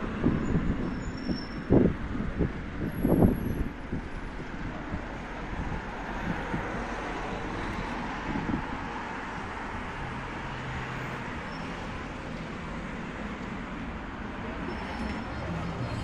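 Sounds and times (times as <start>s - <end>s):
car and road noise: 0.0s - 16.0s.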